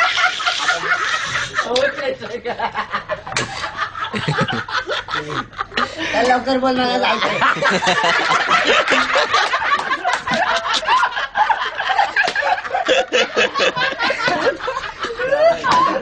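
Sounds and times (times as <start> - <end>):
men snickering and laughing: 0.0 - 16.0.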